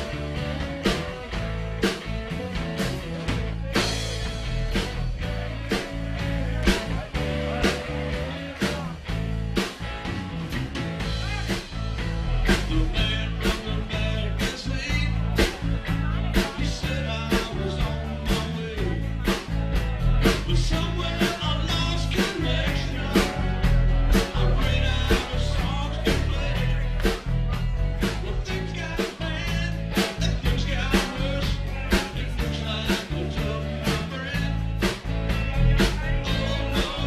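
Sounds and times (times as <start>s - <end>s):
drums keeping a steady beat: 0.0s - 37.0s
live rock band playing: 0.0s - 37.0s.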